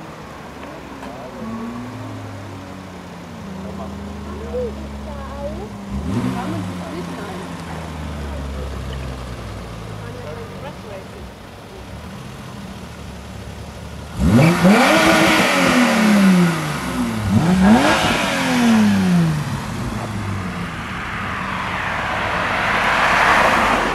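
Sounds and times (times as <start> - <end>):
car engine idling and revving: 0.0 - 23.9
road noise: 0.0 - 23.9.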